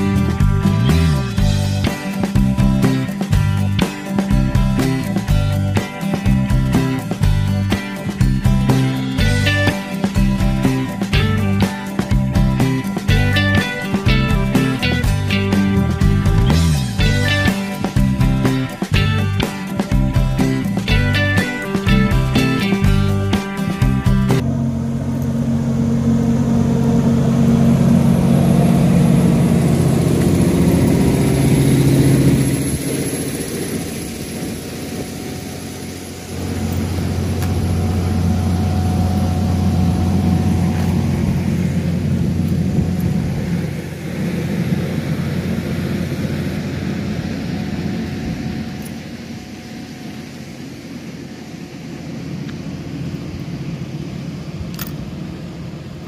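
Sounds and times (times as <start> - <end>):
generator engine humming: 0.0 - 56.0
lower engine hum: 0.0 - 56.0.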